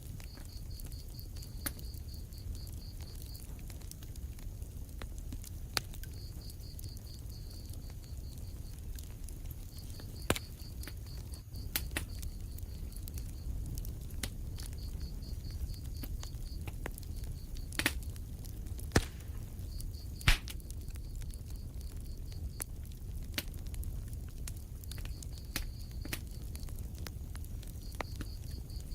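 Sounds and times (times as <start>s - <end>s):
fire crackling and popping: 0.0s - 28.9s.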